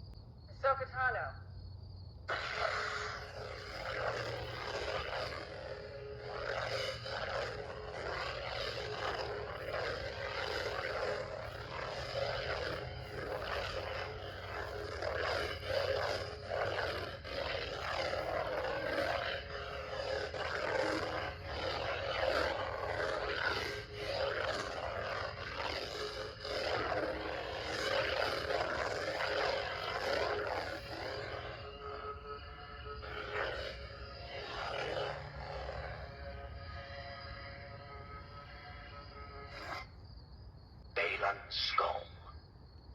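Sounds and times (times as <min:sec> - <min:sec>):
electronic blade hum: 0:01.6 - 0:40.1
steady low drone: 0:02.2 - 0:40.0.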